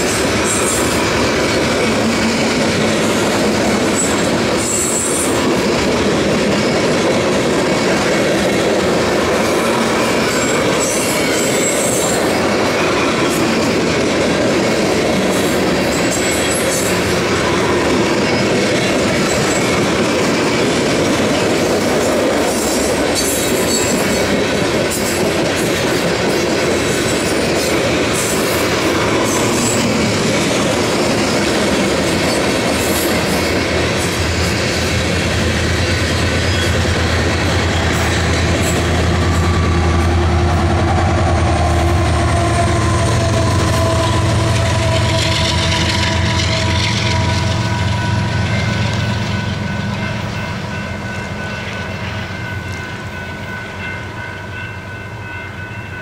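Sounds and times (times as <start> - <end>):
train wheels rumbling and clattering: 0.0 - 56.0.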